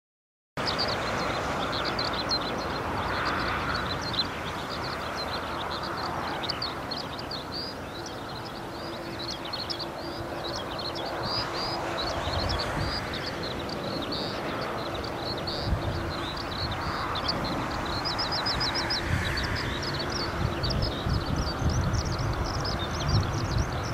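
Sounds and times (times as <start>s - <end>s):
distant airplane engines rumbling: 0.6s - 23.9s
small birds chirping: 0.6s - 23.9s.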